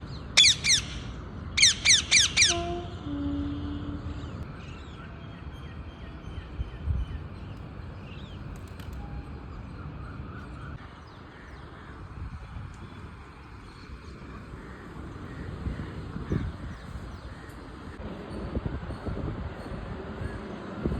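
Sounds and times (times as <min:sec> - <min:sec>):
outdoor background noise: 0:00.0 - 0:20.9.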